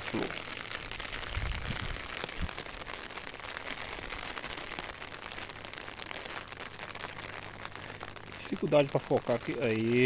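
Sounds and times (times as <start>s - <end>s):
light rain pattering: 0.0s - 10.0s.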